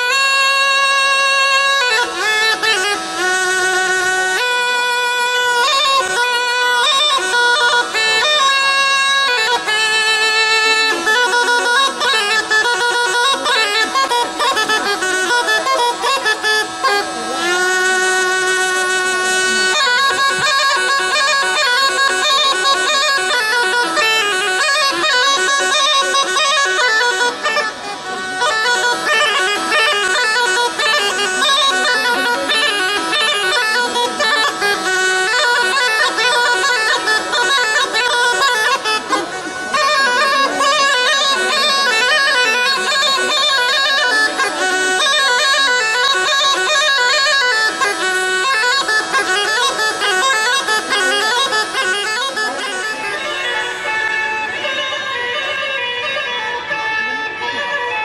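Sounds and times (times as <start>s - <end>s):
bagpipe drone and melody: 0.0s - 58.0s.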